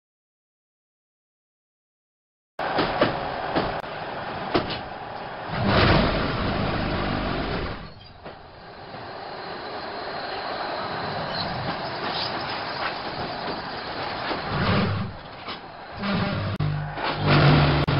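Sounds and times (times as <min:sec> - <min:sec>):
production line machinery running: 0:02.7 - 0:17.9.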